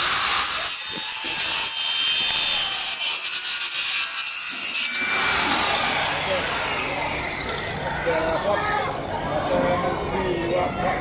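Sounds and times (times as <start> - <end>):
saw cutting wood: 0.0 - 9.6.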